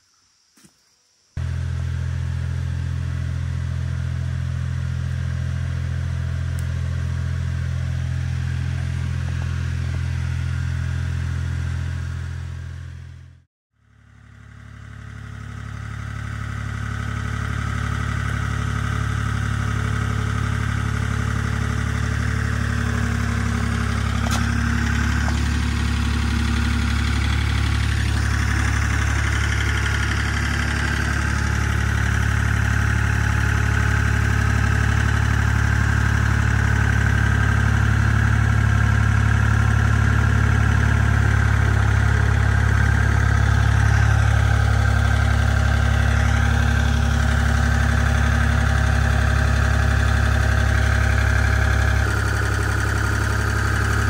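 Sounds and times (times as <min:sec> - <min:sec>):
vehicle engine humming: 0:01.4 - 0:54.0.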